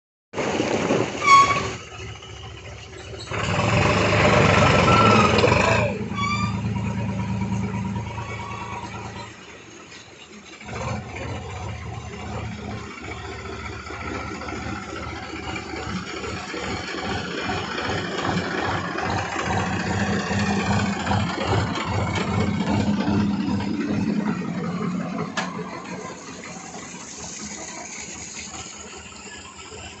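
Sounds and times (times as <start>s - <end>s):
tractor diesel engine chugging: 0.4s - 30.0s.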